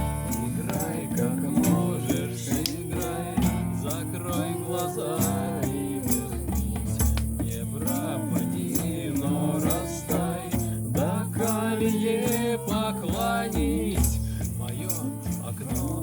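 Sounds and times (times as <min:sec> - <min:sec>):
held bass notes: 0:00.0 - 0:16.0
person singing: 0:00.0 - 0:16.0.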